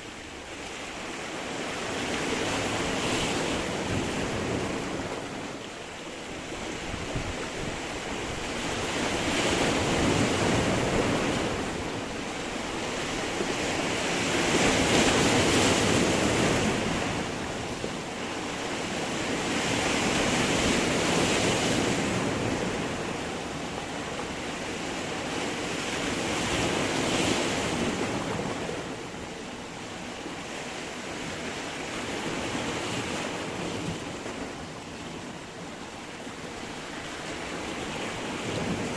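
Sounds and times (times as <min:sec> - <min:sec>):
sea waves surging against rocks: 0:00.0 - 0:38.9.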